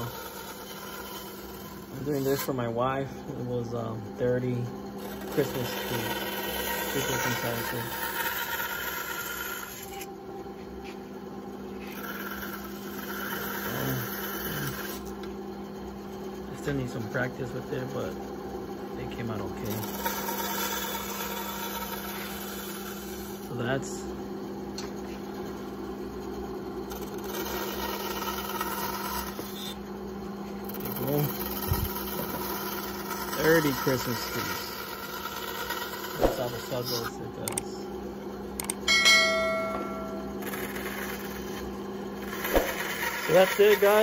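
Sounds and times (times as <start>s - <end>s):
band saw motor humming: 0.0s - 44.0s.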